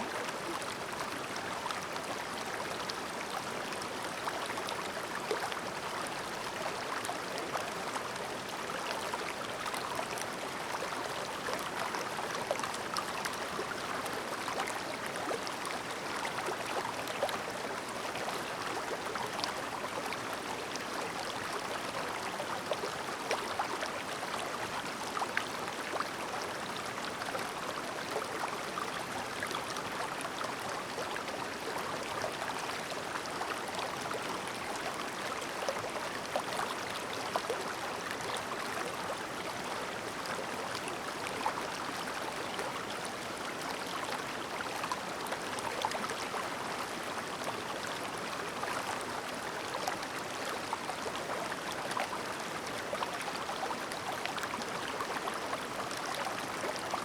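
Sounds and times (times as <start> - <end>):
stream babbling over rocks: 0.1 - 57.0.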